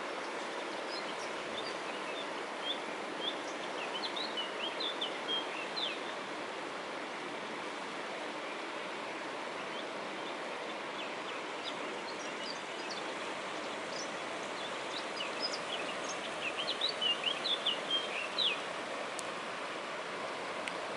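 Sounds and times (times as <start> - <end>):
river rushing: 0.0 - 20.9
songbirds chirping: 0.0 - 20.9.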